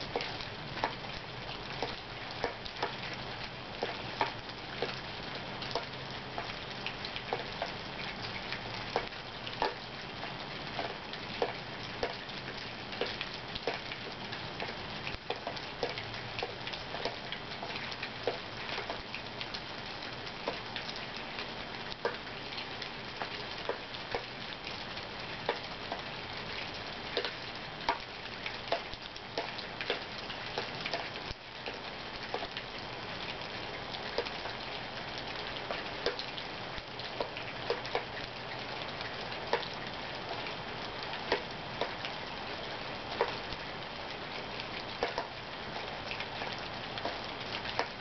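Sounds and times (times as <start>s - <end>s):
rain hiss: 0.0s - 48.0s.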